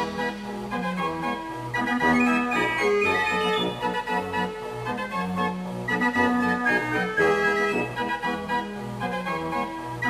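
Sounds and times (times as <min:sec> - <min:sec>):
fair organ playing a tune: 0:00.0 - 0:09.6.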